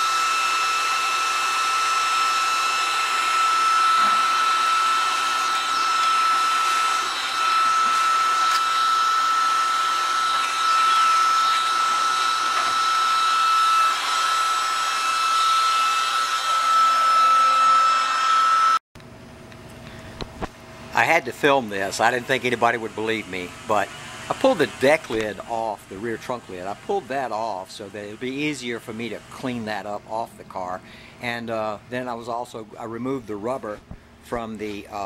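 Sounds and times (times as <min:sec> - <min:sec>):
heat gun fan rush and whine: 0:00.0 - 0:35.0.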